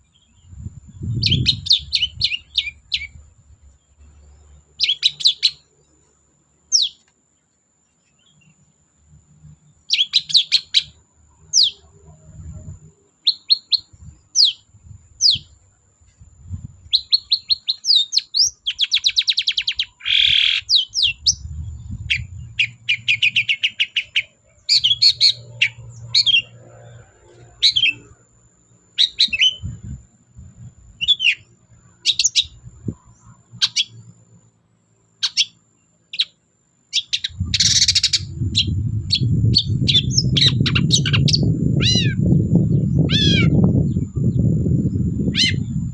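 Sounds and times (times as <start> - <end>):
bird singing with trills: 0.0 - 3.2, 3.9 - 5.7, 6.7 - 7.0, 9.6 - 15.5, 16.9 - 28.2, 28.9 - 29.9, 31.0 - 34.1, 35.2 - 45.9.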